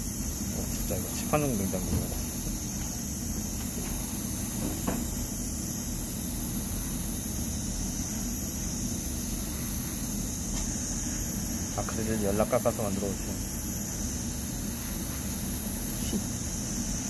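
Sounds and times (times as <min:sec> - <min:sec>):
airbrush air hiss: 0:00.0 - 0:17.0.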